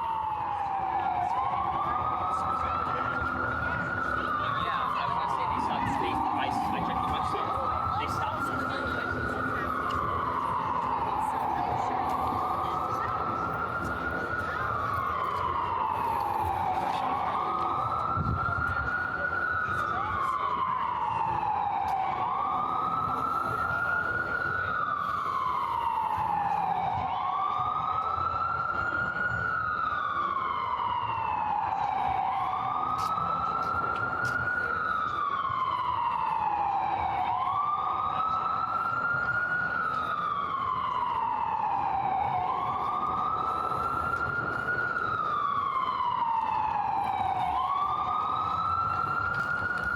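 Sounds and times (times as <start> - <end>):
emergency siren wailing: 0.0 - 49.9
street noise: 0.0 - 49.9.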